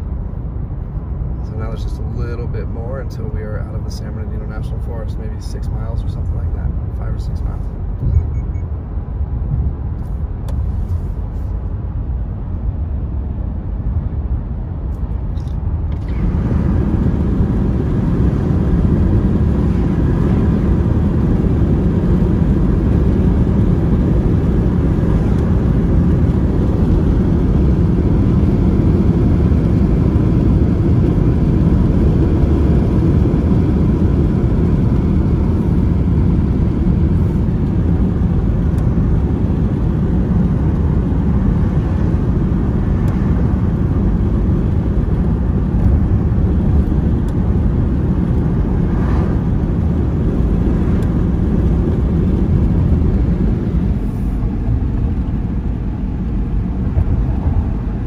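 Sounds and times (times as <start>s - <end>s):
car road noise in cabin: 0.0s - 58.0s.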